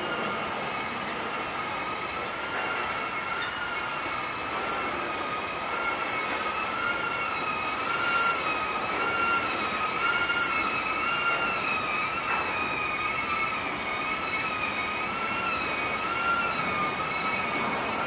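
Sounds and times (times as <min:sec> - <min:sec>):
train rolling noise: 0:00.0 - 0:18.0
train wheels squealing on rail: 0:00.0 - 0:18.0.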